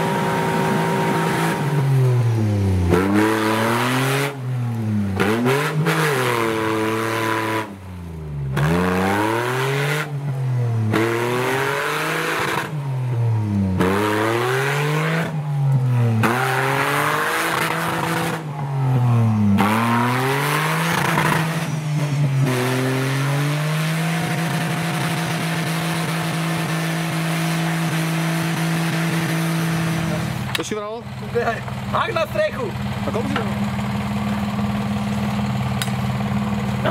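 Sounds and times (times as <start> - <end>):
engine revving: 0.0 - 36.9.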